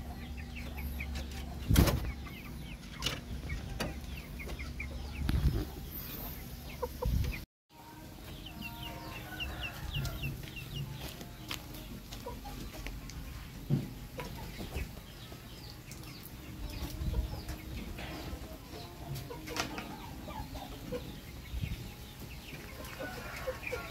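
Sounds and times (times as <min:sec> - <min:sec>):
chickens clucking: 0:00.0 - 0:23.9
chicks peeping: 0:00.0 - 0:23.9.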